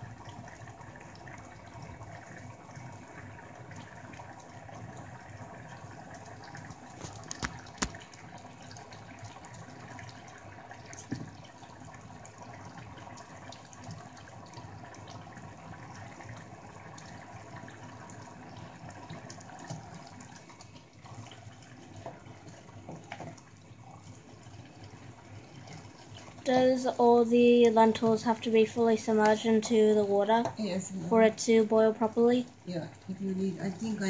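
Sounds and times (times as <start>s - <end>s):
lentils simmering and bubbling: 0.0s - 34.0s.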